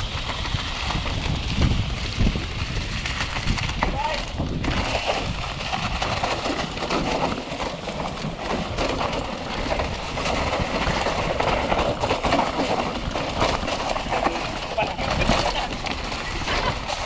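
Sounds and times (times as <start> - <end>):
bike rattling over bumps: 0.0 - 17.0
bike tyres crunching over dirt: 0.0 - 17.0.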